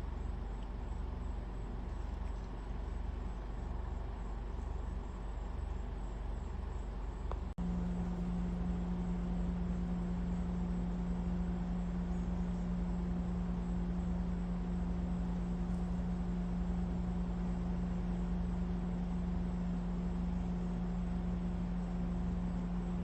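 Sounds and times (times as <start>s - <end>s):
low motor hum: 0.0s - 23.0s
steady humming tone: 0.0s - 23.0s.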